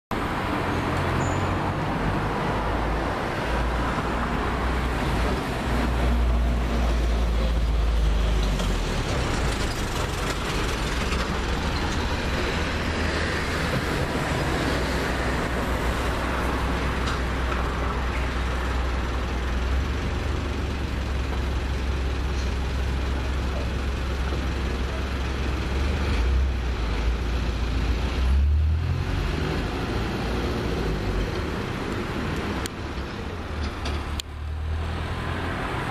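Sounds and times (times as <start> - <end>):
cars driving by: 0.1 - 35.9
truck rumble: 0.1 - 35.9.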